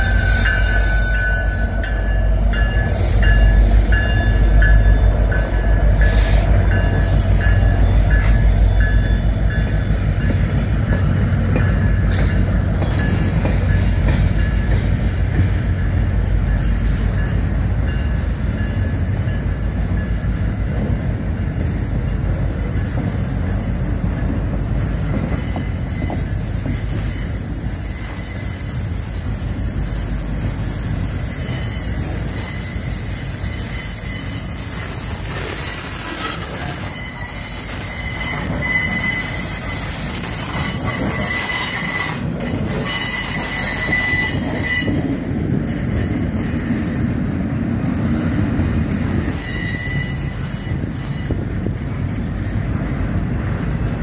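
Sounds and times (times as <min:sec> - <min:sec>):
high wheel squeals: 0:00.0 - 0:12.4, 0:13.0 - 0:45.7, 0:48.0 - 0:54.0
steel wheels rumbling on rail: 0:00.0 - 0:54.0.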